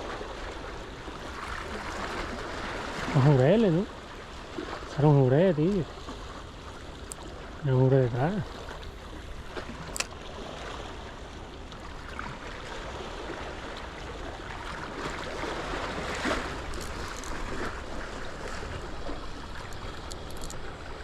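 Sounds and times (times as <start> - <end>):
sea waves washing: 0.0 - 21.0.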